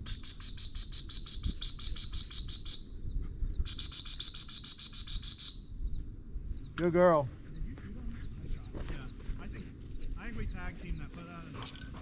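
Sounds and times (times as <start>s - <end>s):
faint insect trill: 0.0s - 12.0s
insect chirping rapidly: 0.0s - 12.0s.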